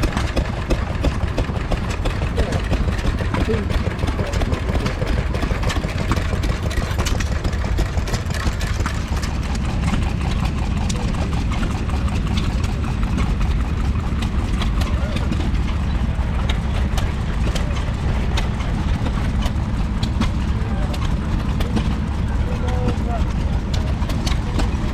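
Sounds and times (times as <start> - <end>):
stationary engine running: 0.0 - 24.9.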